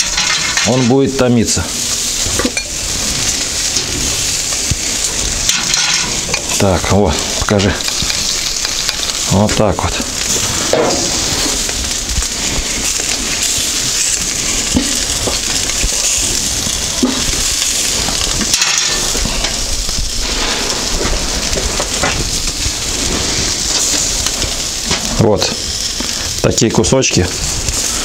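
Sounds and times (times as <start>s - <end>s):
meat sizzling on grill: 0.0s - 28.0s.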